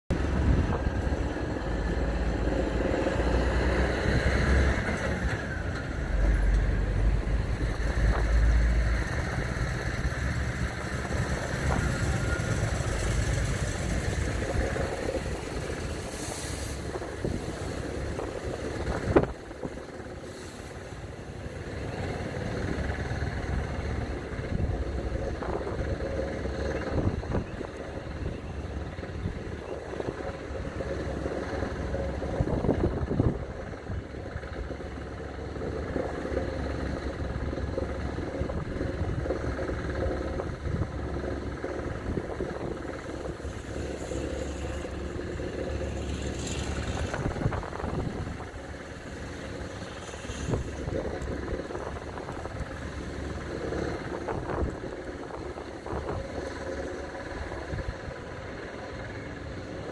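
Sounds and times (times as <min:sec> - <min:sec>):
outdoor background rumble: 0:00.0 - 0:59.9.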